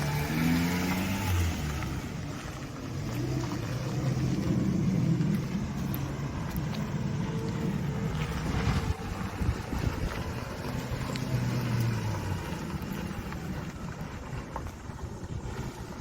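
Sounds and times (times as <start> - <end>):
road noise rumble: 0.0 - 16.0
small truck engine running: 0.0 - 16.0.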